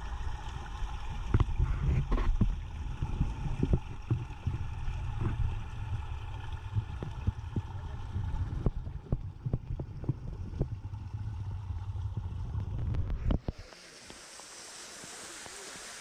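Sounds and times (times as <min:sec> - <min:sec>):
muffled underwater water rumble: 0:00.0 - 0:13.8.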